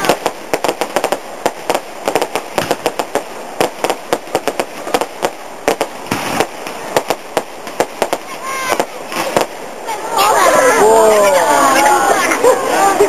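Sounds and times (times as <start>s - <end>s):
fireworks cracks and bangs: 0.0s - 10.8s
continuous firework crackle: 0.0s - 13.0s.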